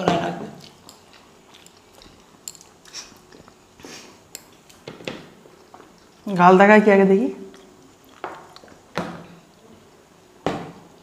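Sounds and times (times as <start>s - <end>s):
people chewing: 0.0s - 6.4s, 7.4s - 10.0s.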